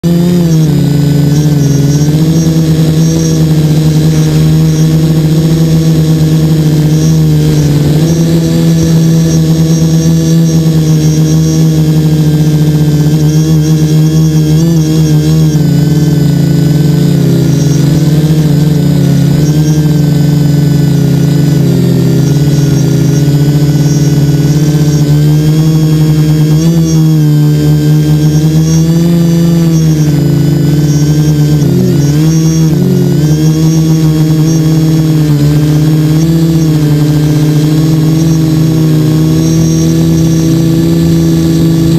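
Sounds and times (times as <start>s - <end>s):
quadcopter motors buzzing: 0.0s - 41.9s.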